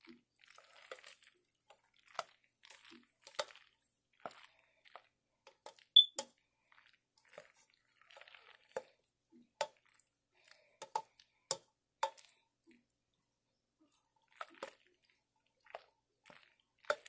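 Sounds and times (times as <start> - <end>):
wet squishing of pasta: 0.0 - 17.0.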